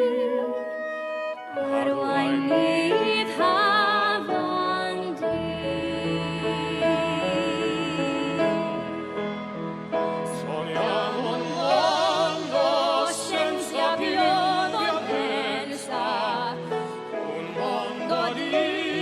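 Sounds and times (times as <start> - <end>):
instrumental accompaniment: 0.0 - 19.0
operatic singing: 1.6 - 19.0.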